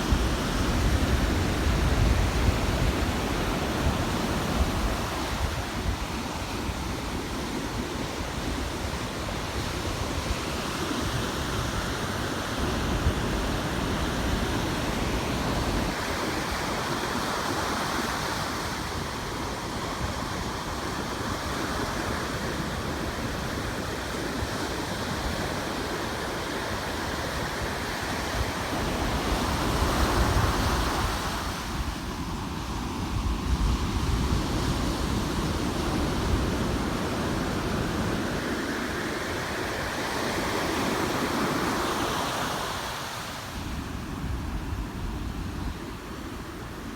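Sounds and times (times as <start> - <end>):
wind rumbling on microphone: 0.0 - 42.6
ocean surf washing onto beach: 0.0 - 46.9.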